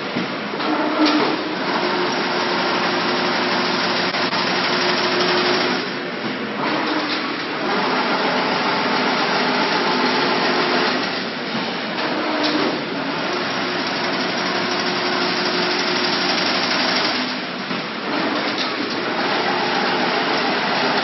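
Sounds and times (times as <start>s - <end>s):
machine clattering and whirring: 0.0s - 21.0s.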